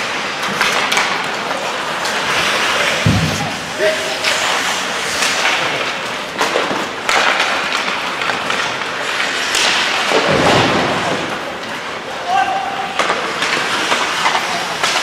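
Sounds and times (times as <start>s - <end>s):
stick and puck clacks: 0.0s - 12.1s, 12.8s - 15.0s
skate blades scraping ice: 0.0s - 15.0s.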